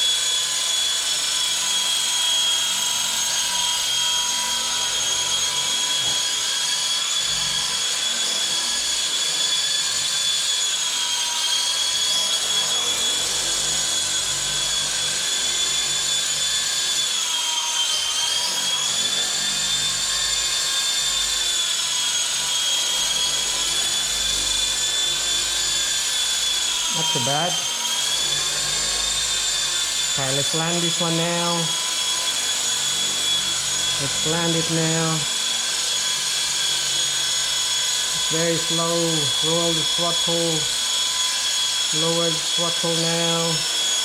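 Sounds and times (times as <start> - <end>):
rc helicopter high whine: 0.0 - 44.0.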